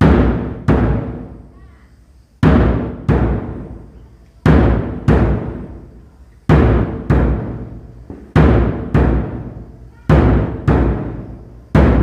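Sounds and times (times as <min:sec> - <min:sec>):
deep drum beats: 0:00.0 - 0:01.4, 0:02.4 - 0:12.0.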